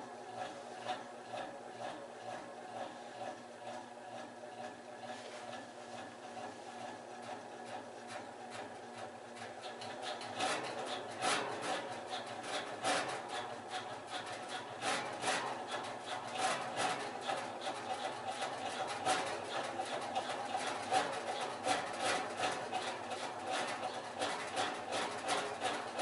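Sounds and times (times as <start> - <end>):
ceiling fan humming: 0.0 - 26.0
fan rattling vibration: 0.0 - 26.0.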